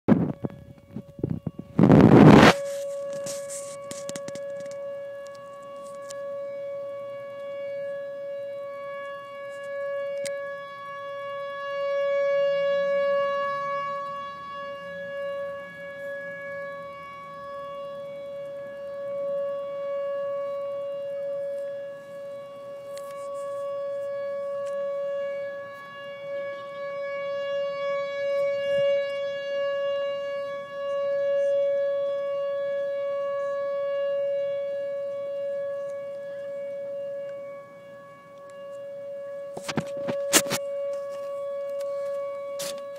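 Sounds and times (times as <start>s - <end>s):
horn-like tone: 0.1s - 42.9s.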